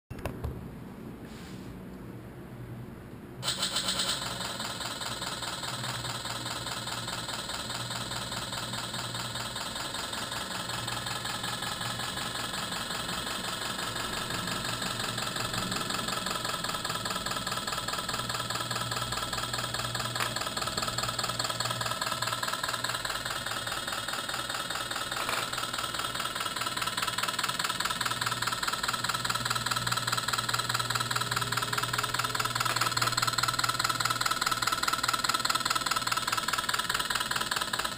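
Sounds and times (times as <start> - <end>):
simulated diesel engine clatter: 3.4 - 37.9.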